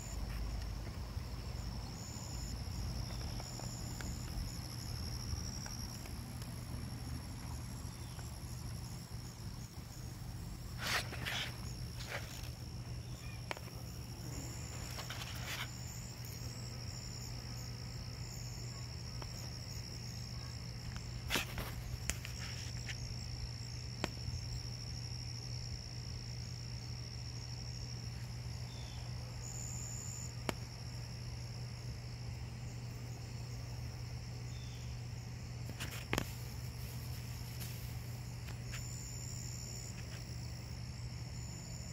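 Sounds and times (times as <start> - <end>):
high-pitched insect whine: 0.0 - 41.9.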